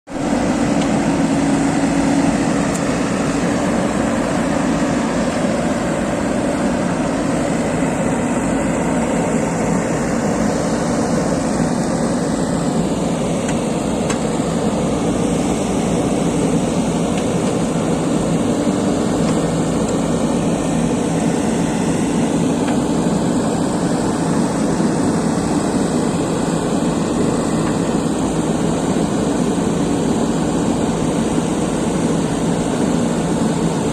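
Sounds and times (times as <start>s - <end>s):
excavator diesel engine droning: 0.1s - 33.9s.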